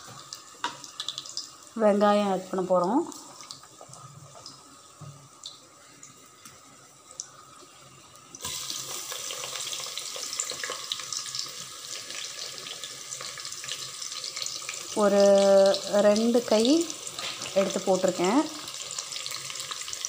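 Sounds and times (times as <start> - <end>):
onions sizzling in hot oil: 0.0 - 20.0
spices crackling in oil: 0.0 - 20.0.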